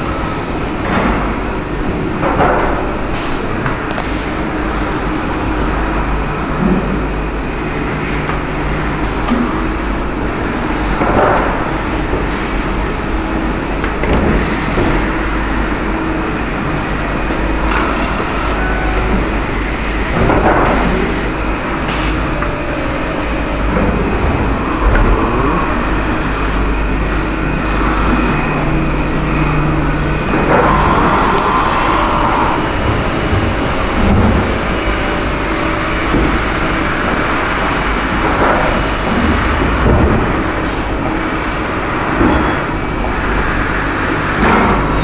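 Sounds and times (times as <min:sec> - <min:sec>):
machine shop machinery running: 0:00.0 - 0:45.0.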